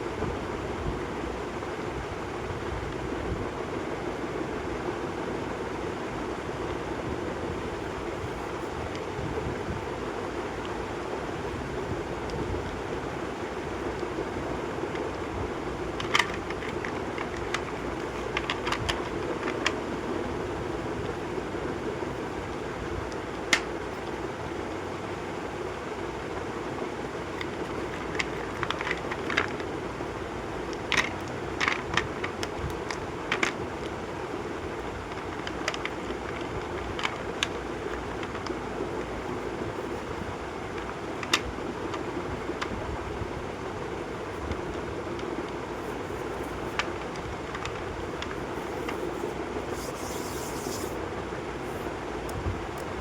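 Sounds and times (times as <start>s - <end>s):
steady background hiss: 0.0s - 53.0s.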